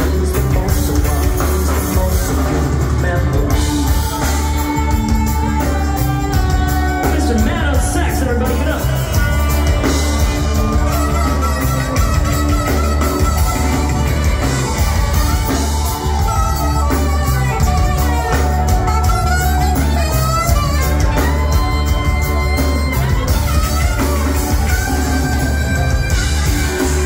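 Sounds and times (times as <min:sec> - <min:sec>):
rock band playing live: 0:00.0 - 0:27.0
saxophone melody: 0:00.0 - 0:27.0.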